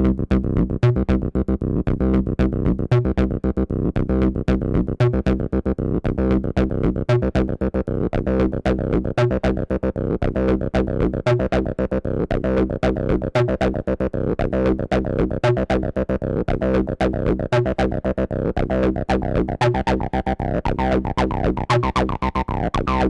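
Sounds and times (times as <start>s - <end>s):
synthesizer acid bass line: 0.0s - 23.0s.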